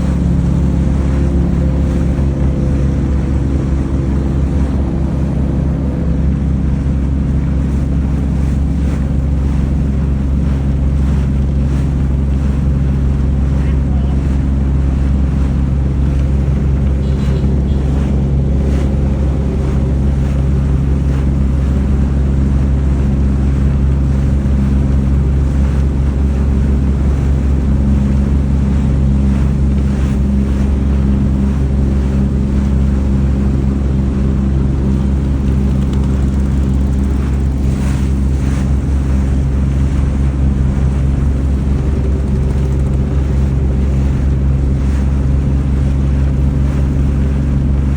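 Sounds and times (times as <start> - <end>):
boat engine humming: 0.0 - 47.9
water rushing past hull: 0.0 - 47.9
wind on microphone: 0.0 - 47.9.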